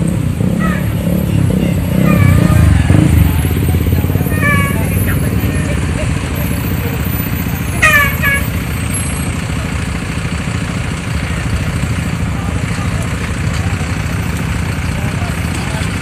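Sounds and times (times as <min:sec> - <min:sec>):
bus engine idling: 0:00.0 - 0:16.0.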